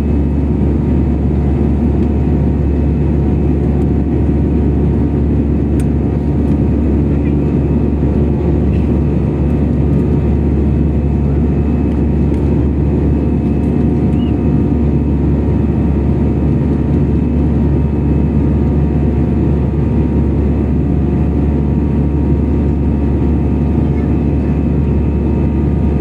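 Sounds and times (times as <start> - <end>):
jet engines roaring in cabin: 0.0 - 26.0.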